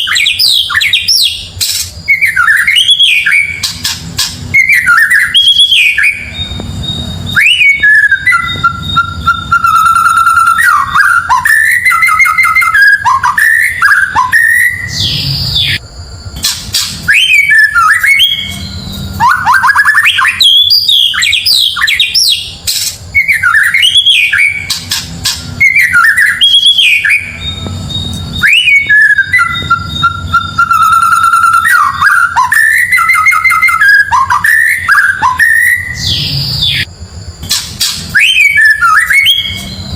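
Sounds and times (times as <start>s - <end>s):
bird singing whistled phrases: 0.0s - 15.8s, 16.8s - 36.9s, 37.9s - 39.9s.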